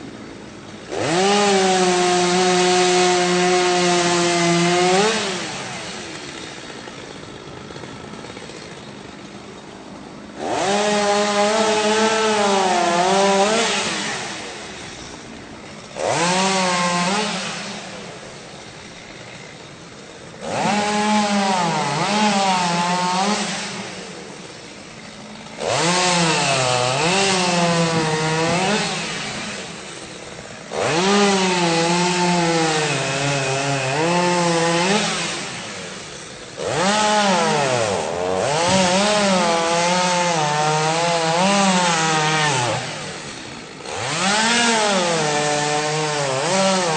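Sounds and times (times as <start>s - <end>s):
chainsaw cutting: 0.0s - 46.9s
chainsaw idling: 0.0s - 46.9s.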